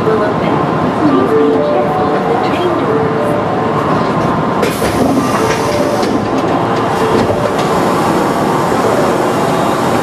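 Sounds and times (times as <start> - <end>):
subway train hum and rumble: 0.0 - 10.0.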